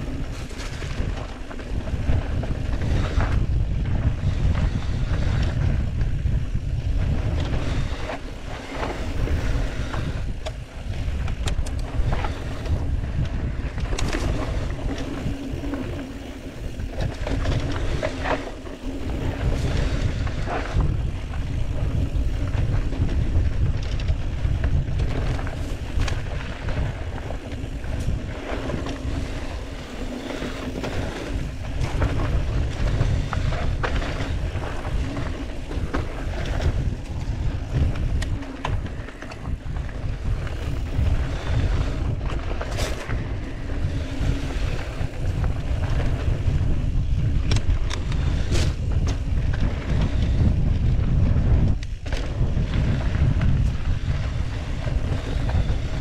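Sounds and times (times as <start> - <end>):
bike knocking and rattling: 0.0 - 56.0
tyres on dry dirt: 0.0 - 56.0
wind buffeting microphone: 0.0 - 56.0.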